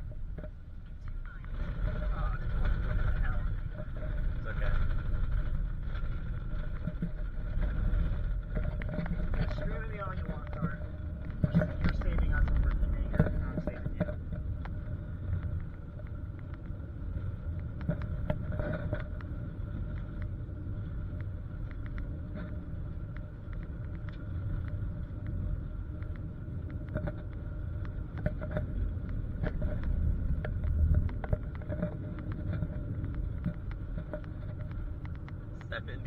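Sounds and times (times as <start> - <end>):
car engine and road rumble: 0.0 - 36.0
faint whine: 0.0 - 36.0
small knocks and ticks: 0.0 - 36.0.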